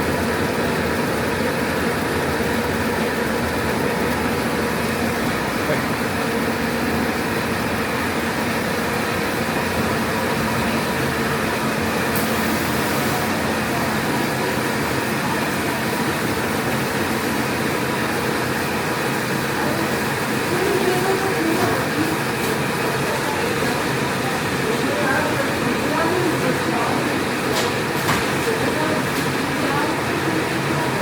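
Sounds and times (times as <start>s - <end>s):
machine whirring: 0.0s - 31.0s.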